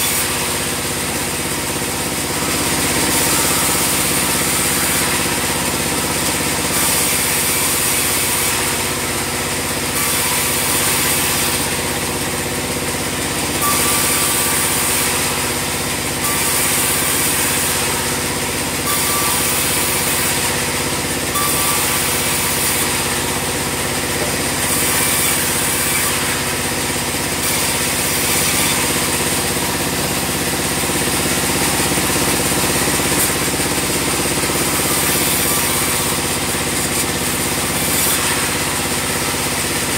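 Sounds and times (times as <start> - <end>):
band sawmill drone with hiss: 0.0 - 39.9.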